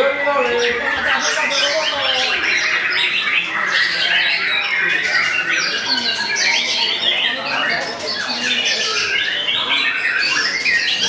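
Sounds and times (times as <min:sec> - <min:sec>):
caged songbirds singing: 0:00.0 - 0:11.0.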